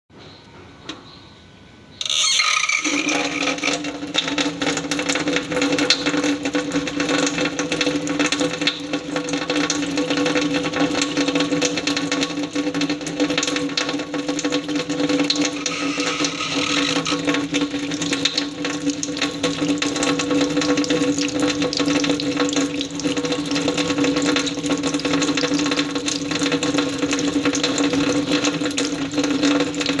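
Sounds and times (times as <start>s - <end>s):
tap running into sink: 2.0s - 30.0s.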